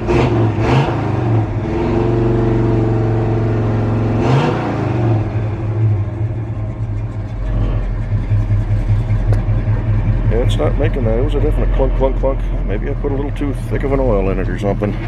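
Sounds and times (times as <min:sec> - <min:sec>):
pickup truck engine driving: 0:00.0 - 0:15.0.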